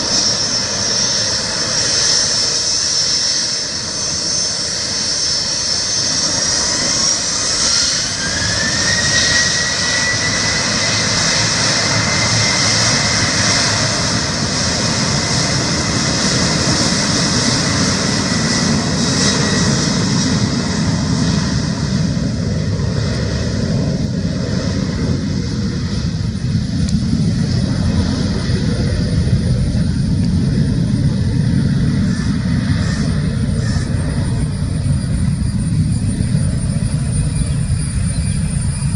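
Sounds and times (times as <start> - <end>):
jet engine roar: 0.0 - 38.9
jet engine whine: 0.0 - 38.9.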